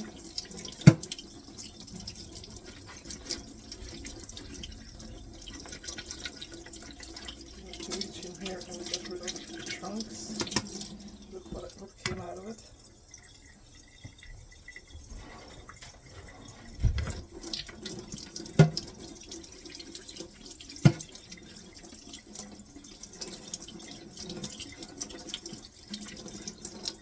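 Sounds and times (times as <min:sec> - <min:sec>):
tap water running over parts: 0:00.0 - 0:27.0.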